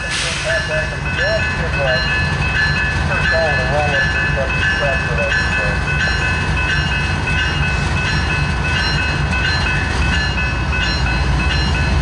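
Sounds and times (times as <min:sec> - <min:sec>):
diesel locomotive rumbling: 0:00.0 - 0:12.0
locomotive bell ringing: 0:00.0 - 0:12.0.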